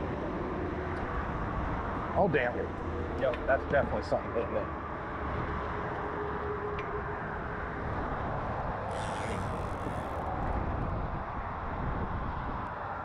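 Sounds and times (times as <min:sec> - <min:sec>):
road traffic: 0:00.0 - 0:13.0
wind rumbling on microphone: 0:00.0 - 0:13.0.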